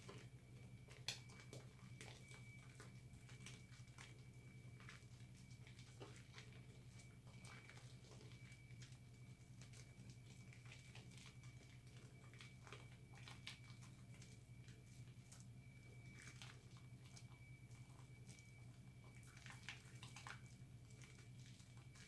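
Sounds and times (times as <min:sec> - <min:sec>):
soap lather squishing: 0:00.0 - 0:22.0.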